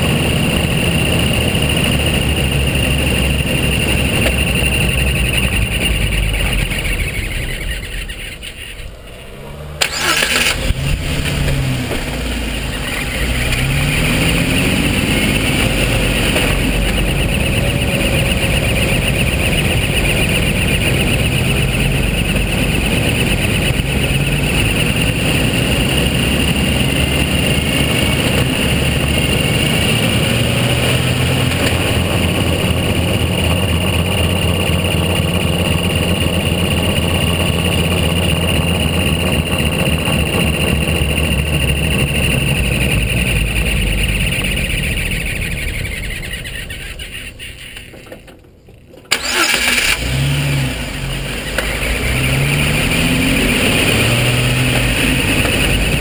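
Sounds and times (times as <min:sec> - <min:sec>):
high whine: 0:00.0 - 0:48.3, 0:49.1 - 0:56.0
engine running while driving: 0:00.0 - 0:56.0.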